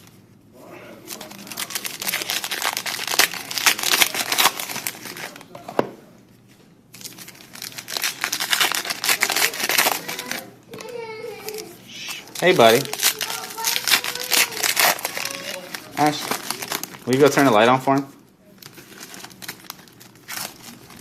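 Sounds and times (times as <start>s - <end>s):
plastic wrappers tearing and crinkling: 0.9s - 5.5s, 6.9s - 21.0s.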